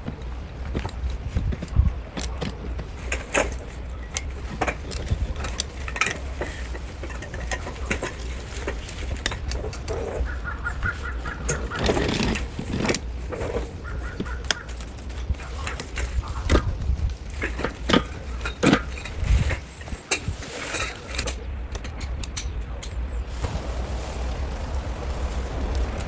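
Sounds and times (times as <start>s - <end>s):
chair poles clicking and knocking: 0.0s - 23.8s
steady low rumble: 0.0s - 26.0s.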